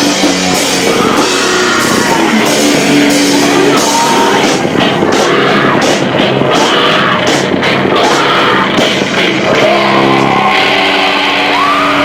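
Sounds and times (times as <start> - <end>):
distorted live rock band: 0.0 - 12.0.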